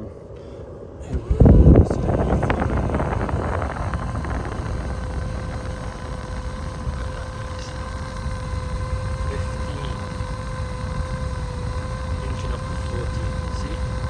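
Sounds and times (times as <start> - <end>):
low hum: 0.0 - 14.0
clothes dryer exhaust air rushing: 0.9 - 14.0.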